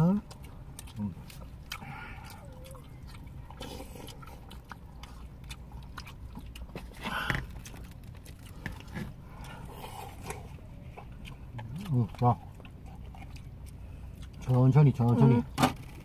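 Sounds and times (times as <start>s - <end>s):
chewing and slurping: 0.0s - 16.0s.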